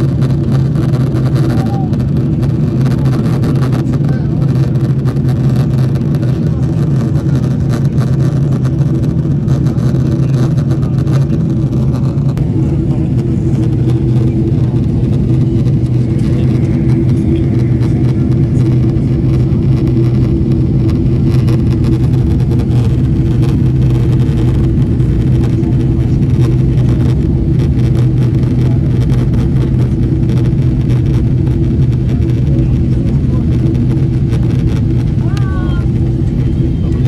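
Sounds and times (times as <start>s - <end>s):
airplane cabin drone: 0.0s - 37.0s
jet engine hum: 0.0s - 37.0s.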